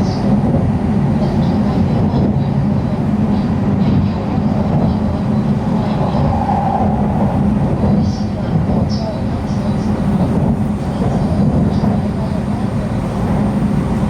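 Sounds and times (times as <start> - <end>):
train rumbling from inside cabin: 0.0 - 14.0.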